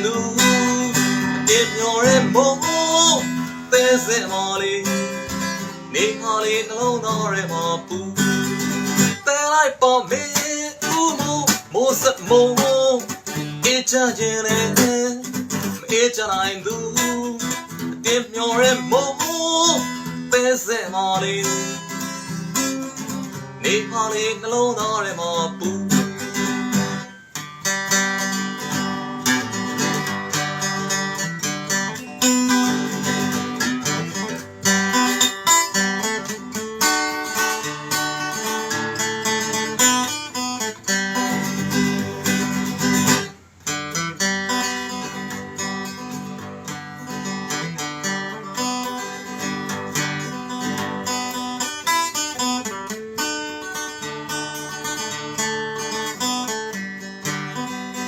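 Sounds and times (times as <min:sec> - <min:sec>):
acoustic guitar plucked and strummed: 0:00.0 - 0:58.0.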